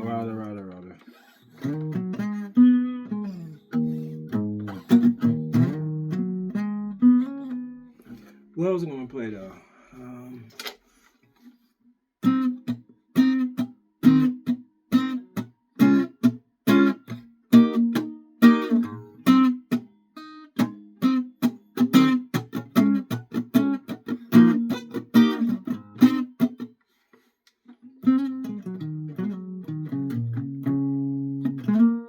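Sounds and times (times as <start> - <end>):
guitar strumming chords: 0.0 - 8.4, 12.2 - 26.6, 27.8 - 32.0.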